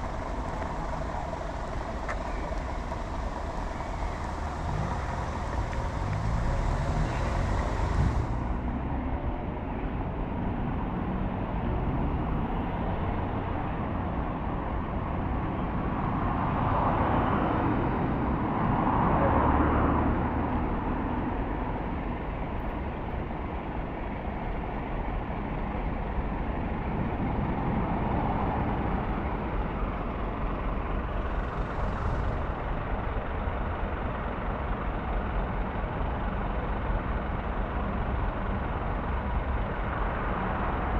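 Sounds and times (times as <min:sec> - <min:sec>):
vehicles passing by: 0:00.0 - 0:40.9.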